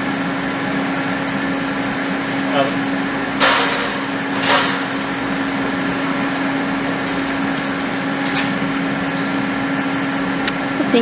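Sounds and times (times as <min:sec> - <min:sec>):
welding equipment humming and hissing: 0:00.0 - 0:11.0.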